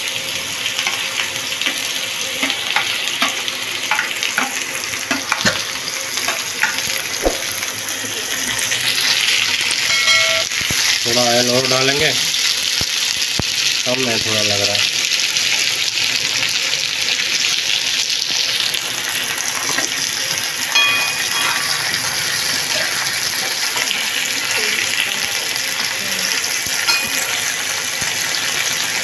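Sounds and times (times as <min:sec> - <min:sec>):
potatoes sizzling in oil: 0:00.0 - 0:29.0.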